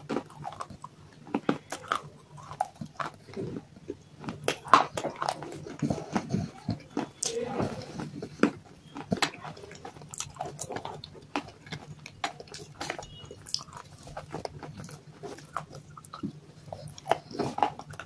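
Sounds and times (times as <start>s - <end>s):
clay crunching and chewing: 0.0s - 18.0s.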